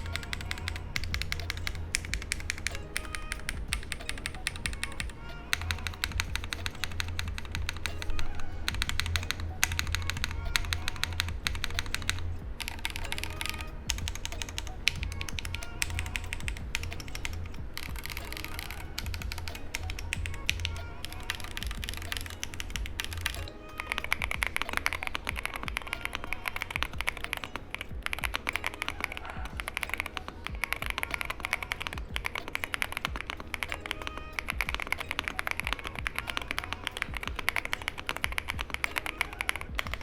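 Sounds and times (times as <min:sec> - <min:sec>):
fast typing on mechanical keyboard: 0:00.0 - 0:40.0.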